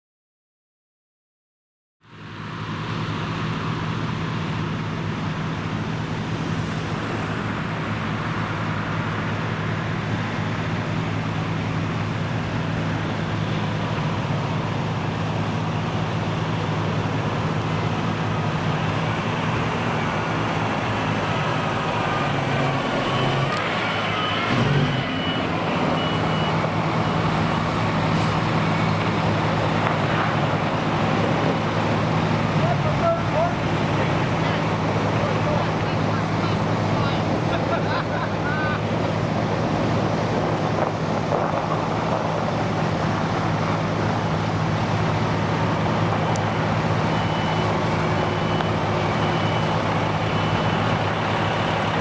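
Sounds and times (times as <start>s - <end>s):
motor vehicle hum: 2.1s - 52.0s.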